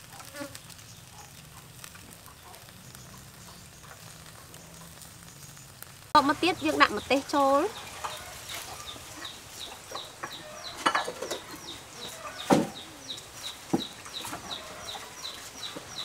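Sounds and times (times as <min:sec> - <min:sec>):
chickens clucking: 0:00.0 - 0:05.1, 0:06.2 - 0:16.0.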